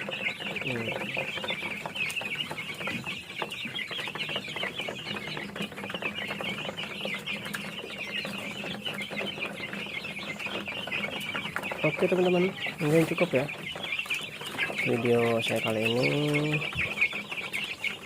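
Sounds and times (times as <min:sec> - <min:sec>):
young chickens clucking and chirping: 0:00.0 - 0:18.0.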